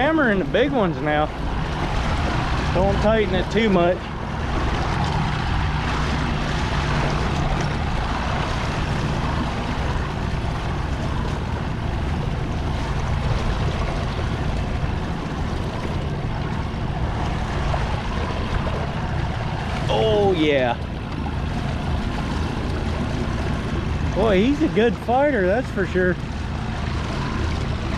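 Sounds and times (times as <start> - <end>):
boat motor running: 0.0 - 27.9
water noise: 0.0 - 27.9.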